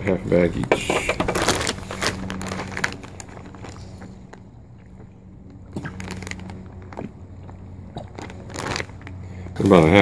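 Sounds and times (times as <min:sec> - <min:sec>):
steady low hum: 0:00.0 - 0:10.0
plastic crinkling and tapping: 0:00.6 - 0:09.2.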